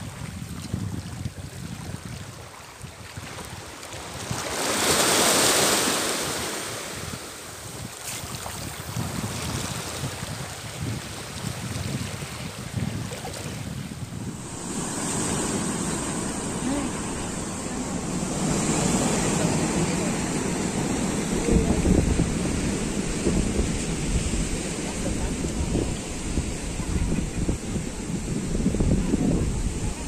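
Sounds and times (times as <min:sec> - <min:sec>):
waves washing on stony shore: 0:00.0 - 0:30.0
wind rumbling on microphone: 0:00.0 - 0:30.0.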